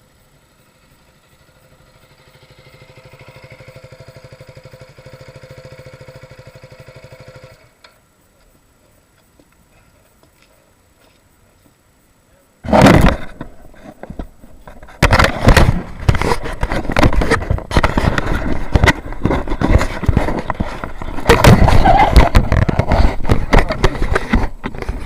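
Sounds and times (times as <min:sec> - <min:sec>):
motorcycle engine: 0:00.0 - 0:07.9, 0:12.7 - 0:25.0.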